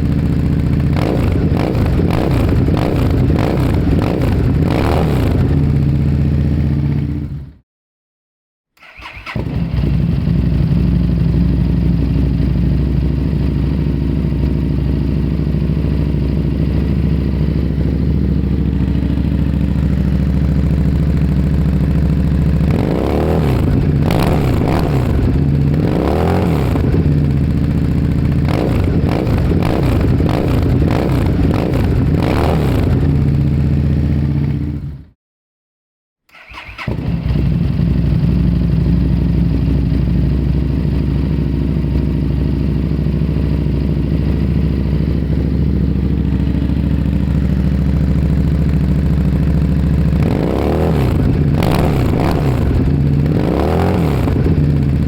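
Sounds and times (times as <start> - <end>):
motorcycle engine idling: 0.0 - 7.5, 9.3 - 35.1, 37.0 - 55.0
motorcycle engine revving: 0.0 - 7.5, 8.9 - 35.1, 36.3 - 55.0.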